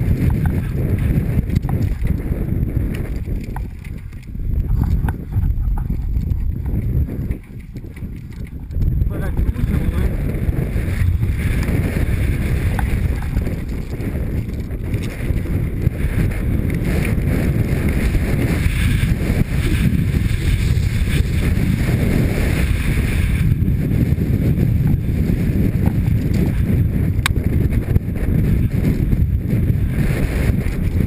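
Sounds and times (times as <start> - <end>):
tyres on loose rock and gravel: 0.0 - 31.0
wind rushing over microphone: 0.0 - 31.0.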